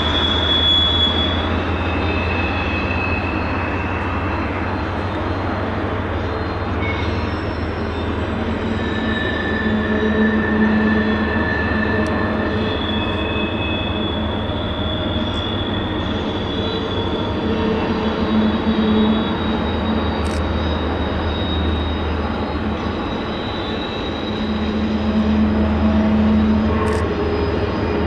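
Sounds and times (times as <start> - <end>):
high-pitched wheel squeal: 0.0 - 28.0
train wheels rumbling on rail: 0.0 - 28.0.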